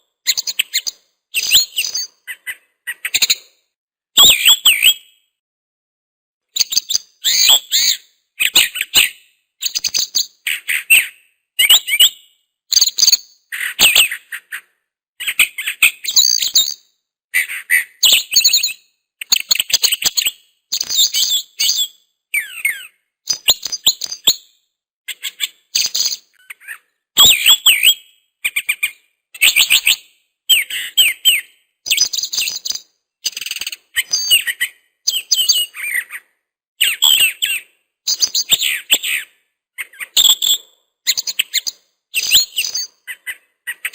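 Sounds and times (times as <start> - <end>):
songbird chirping and trilling: 0.3 - 3.6, 4.2 - 5.2, 6.6 - 16.9, 17.6 - 43.9.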